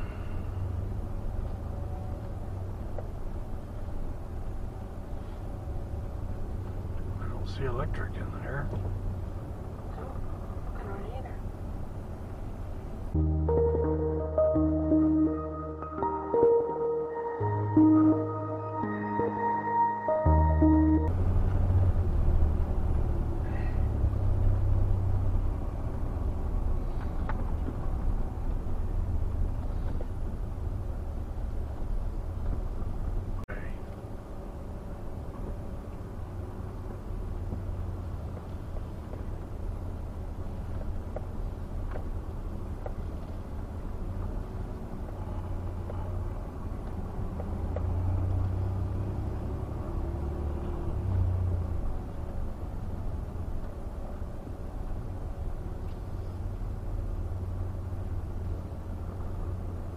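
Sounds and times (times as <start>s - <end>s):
van engine rumble: 0.0s - 59.9s.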